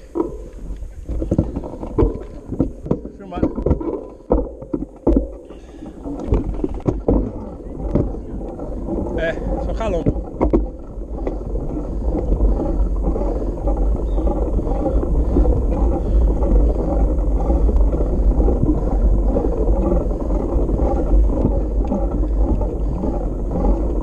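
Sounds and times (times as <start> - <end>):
bike tyres rolling on dirt: 0.0 - 24.0
wind buffeting microphone: 0.0 - 24.0.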